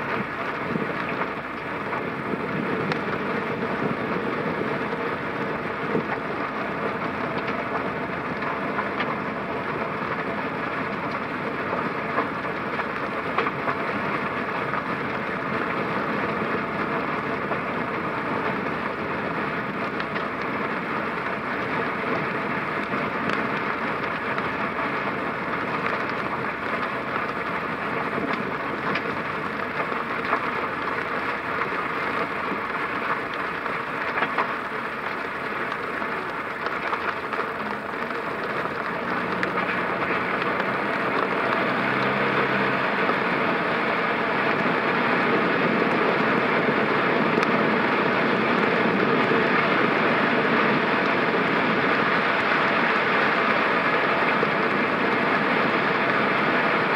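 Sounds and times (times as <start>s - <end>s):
rain: 0.0s - 56.9s
tyres hissing on wet road: 0.0s - 56.9s.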